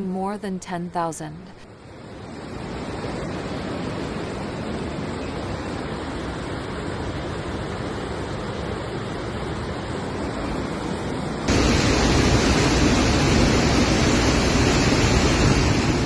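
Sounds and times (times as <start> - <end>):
rushing floodwater: 2.6 - 16.0.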